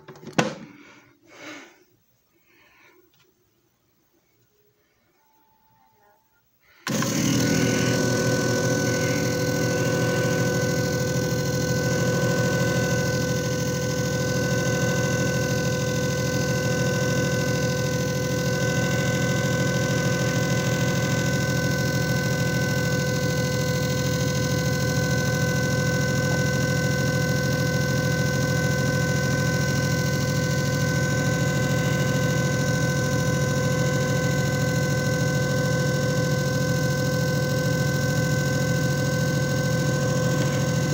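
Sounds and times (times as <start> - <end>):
machine switching on: 6.7 - 40.9
motor spinning with whine: 6.8 - 40.9.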